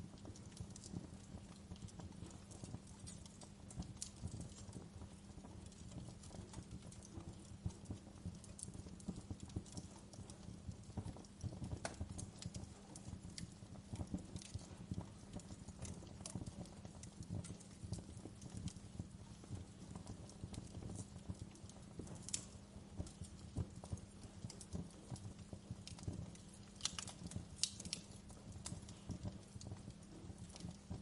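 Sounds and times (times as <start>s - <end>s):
fire pops and snaps: 0.0s - 31.0s
wood fire crackling: 0.0s - 31.0s.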